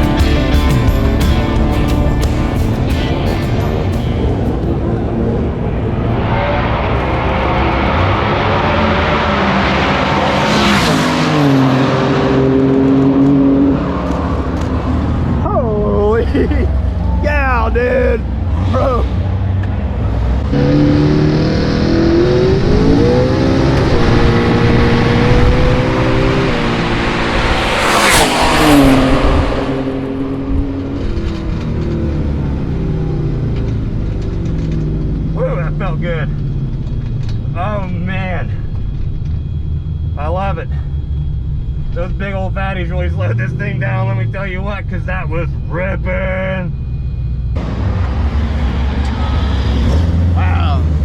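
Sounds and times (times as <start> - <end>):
car engine running hard: 0.0 - 51.0.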